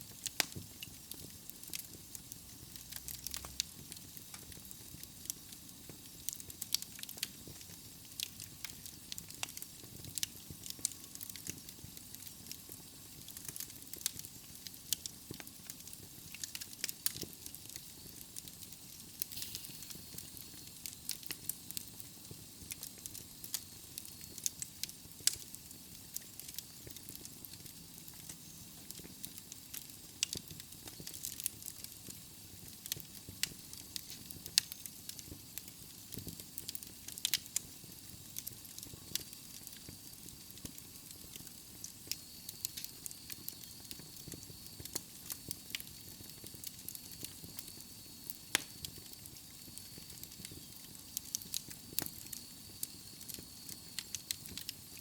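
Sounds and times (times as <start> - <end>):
soft hiss of flames: 0.0 - 55.0
logs crackling and popping: 0.1 - 55.0.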